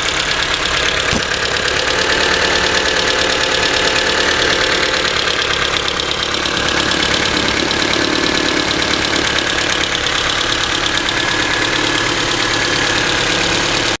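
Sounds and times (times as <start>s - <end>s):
engine idling with ticking: 0.0s - 14.0s.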